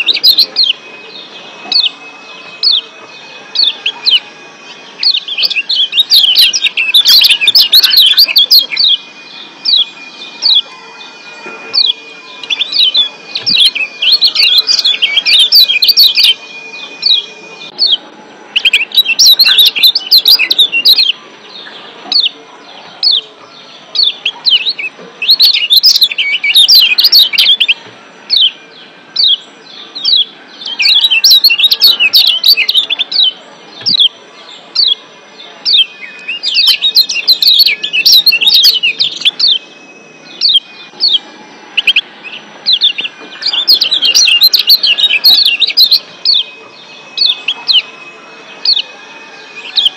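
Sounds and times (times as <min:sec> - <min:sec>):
bird chirps: 0:00.0 - 0:49.9.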